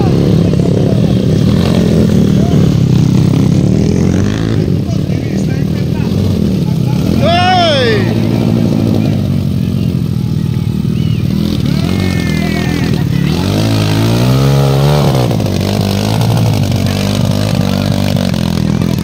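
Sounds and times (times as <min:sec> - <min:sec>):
crowd voices: 0:00.0 - 0:19.0
dirt bike engine revving: 0:00.0 - 0:19.0.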